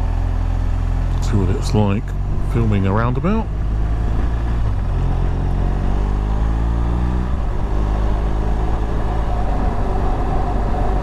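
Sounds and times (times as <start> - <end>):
wind rumble on microphone: 2.1 - 11.0.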